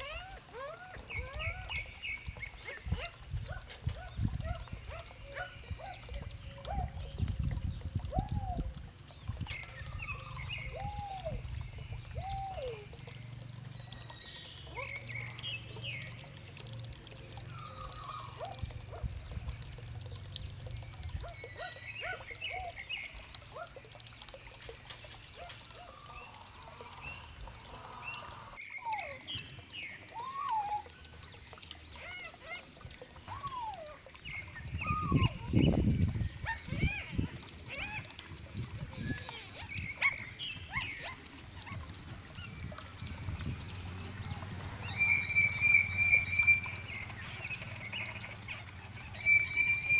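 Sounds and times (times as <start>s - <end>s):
caged birds calling: 0.0s - 49.9s.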